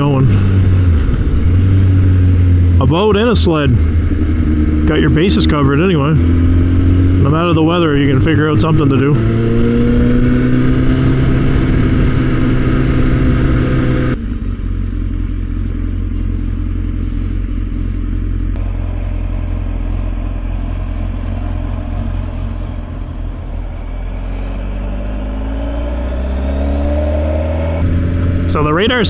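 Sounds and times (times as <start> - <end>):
low rumble: 0.0 - 29.0
motorcycle engine running: 0.0 - 29.0.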